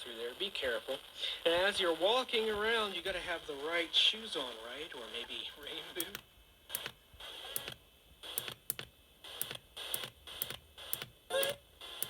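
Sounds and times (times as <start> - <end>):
radio static bursts with clicks: 0.0 - 11.2.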